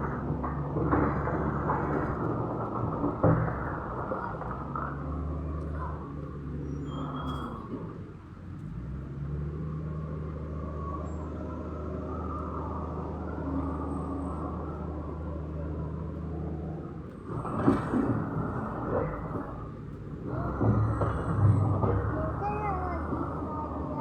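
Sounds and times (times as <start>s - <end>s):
diesel engine low rumble: 0.0s - 24.0s.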